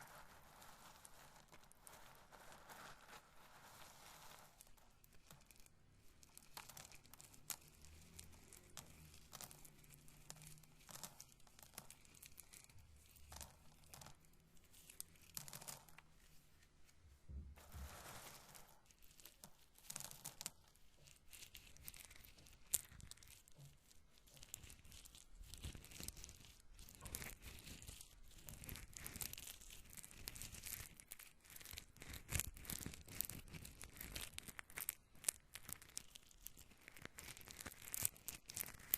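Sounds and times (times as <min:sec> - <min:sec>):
corn kernels crackling in fingers: 0:00.0 - 0:16.1, 0:17.8 - 0:38.9.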